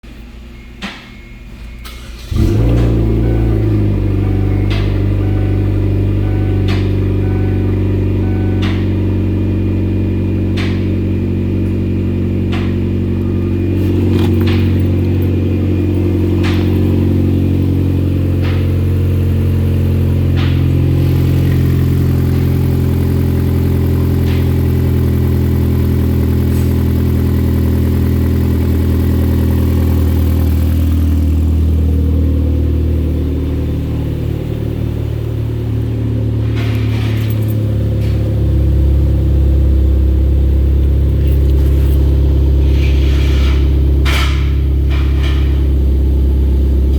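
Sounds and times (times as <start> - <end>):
car engine idling: 1.8 - 46.9.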